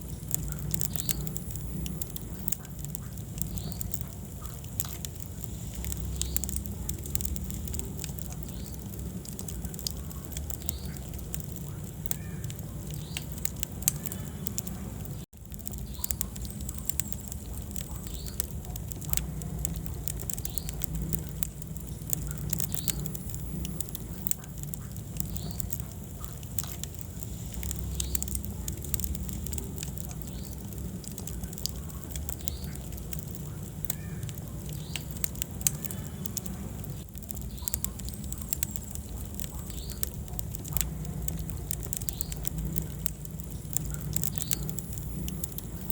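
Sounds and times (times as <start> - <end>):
fire crackling and popping: 0.0 - 45.9
low rumble of flames: 0.0 - 45.9.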